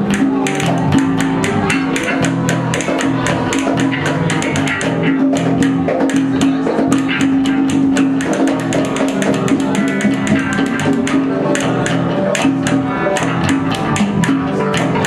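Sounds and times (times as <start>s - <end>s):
bass guitar: 0.0s - 15.0s
electric guitar: 0.0s - 15.0s
hand percussion hits: 0.0s - 15.0s.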